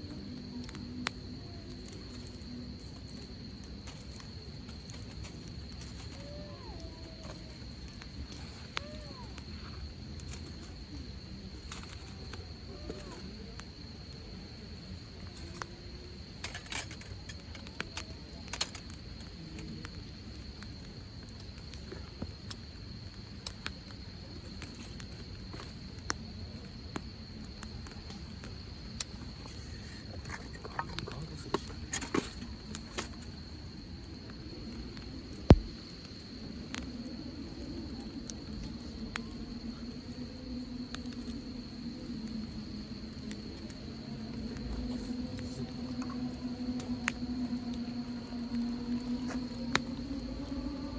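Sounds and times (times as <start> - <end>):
campfire crackling and popping: 0.0 - 50.9
insects chirring: 0.0 - 50.9.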